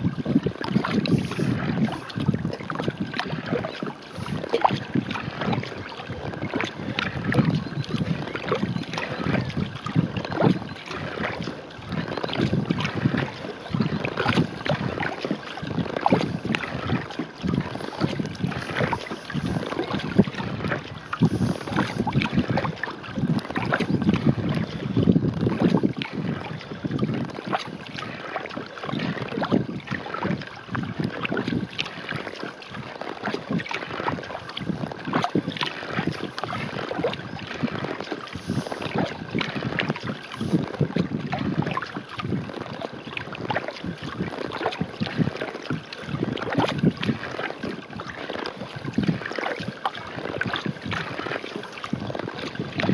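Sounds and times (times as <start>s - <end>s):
paddle strokes in water: 0.0s - 52.9s
water washing along a hull: 0.0s - 52.9s.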